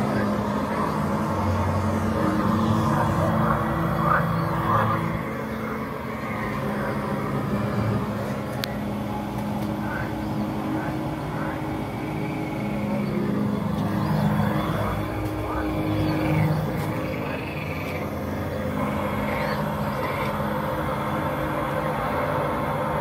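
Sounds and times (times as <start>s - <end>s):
low mechanical drone: 0.0s - 23.0s.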